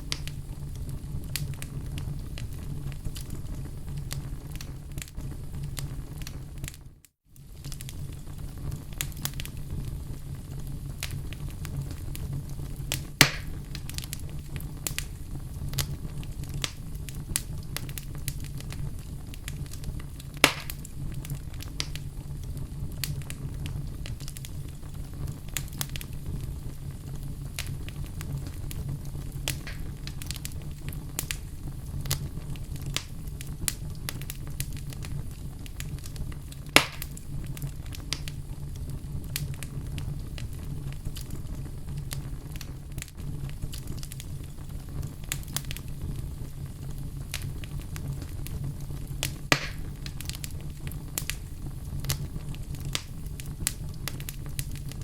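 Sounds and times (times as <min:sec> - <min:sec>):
sharp pops from fire: 0:00.0 - 0:06.8, 0:07.4 - 0:55.0
wood fire crackling: 0:00.0 - 0:55.0.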